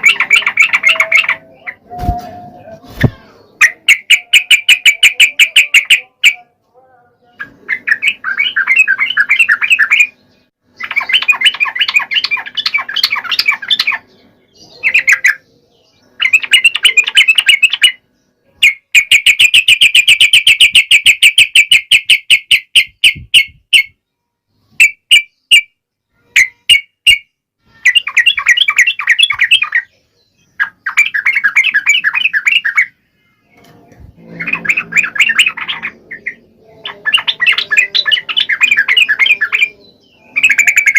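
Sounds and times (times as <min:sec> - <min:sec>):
bird chattering song: 0:00.0 - 0:06.5, 0:07.2 - 0:24.0, 0:24.6 - 0:40.9.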